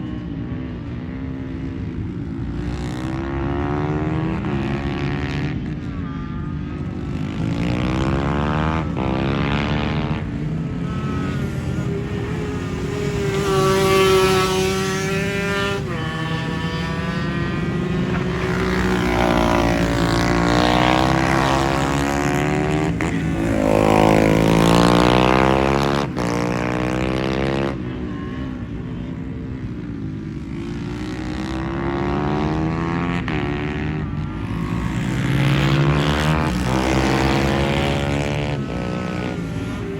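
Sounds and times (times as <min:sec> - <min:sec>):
motorcycle engines buzzing: 0:00.0 - 0:39.9.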